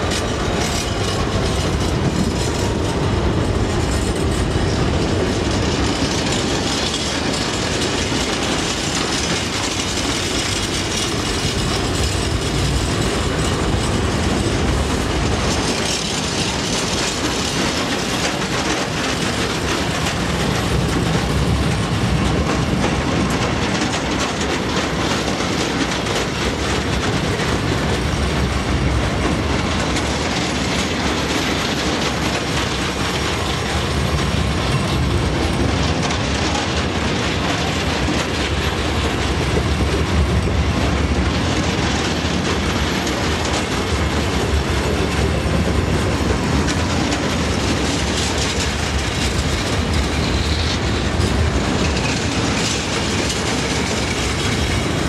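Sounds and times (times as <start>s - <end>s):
train rumbling: 0.0s - 55.0s
wheels clicking over rail joints: 0.0s - 55.0s.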